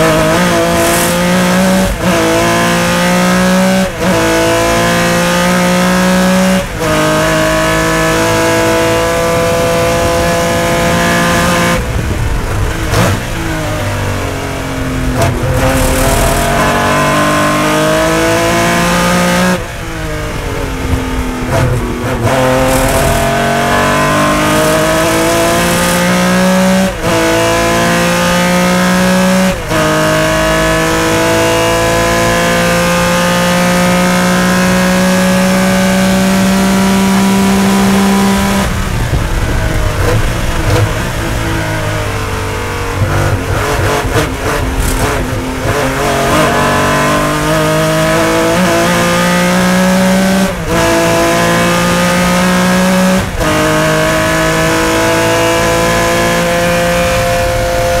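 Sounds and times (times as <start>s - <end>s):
race car engine at full throttle: 0.0s - 58.0s.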